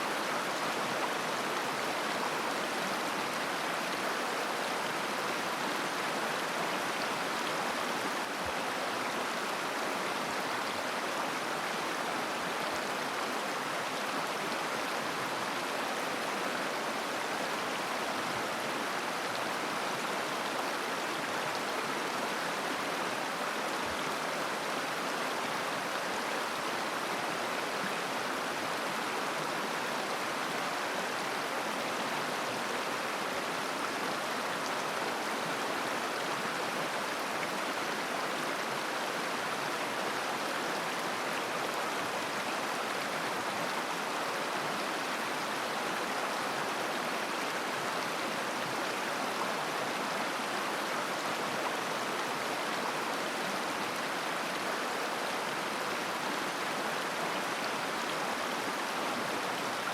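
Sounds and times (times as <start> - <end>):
river water babbling over stones: 0.0 - 59.9.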